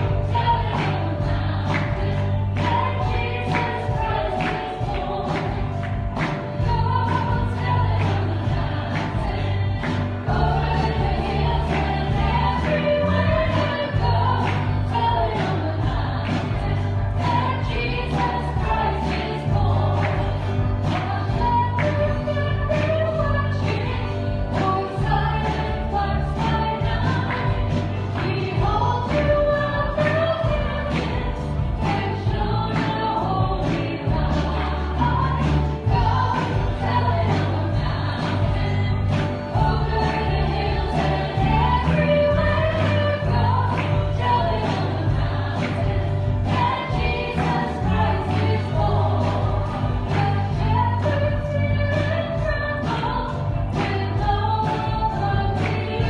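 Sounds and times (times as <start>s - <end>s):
bass: 0.0s - 56.0s
voices singing worship song: 0.0s - 56.0s.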